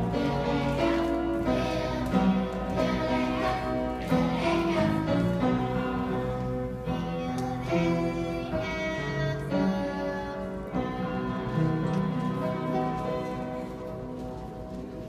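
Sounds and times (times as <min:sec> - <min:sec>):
children singing: 0:00.0 - 0:14.0
piano playing: 0:00.0 - 0:15.0.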